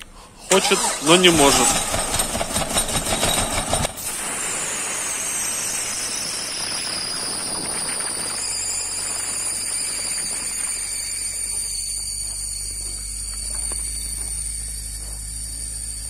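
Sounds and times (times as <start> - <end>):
car engine cold-starting: 0.0 - 16.0
drive belt squealing: 0.5 - 16.0.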